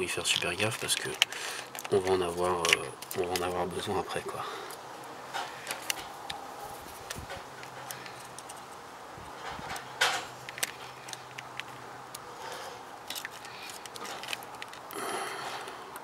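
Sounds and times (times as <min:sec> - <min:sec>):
metal pick tools clicking and scraping: 0:00.0 - 0:08.8, 0:09.4 - 0:15.0.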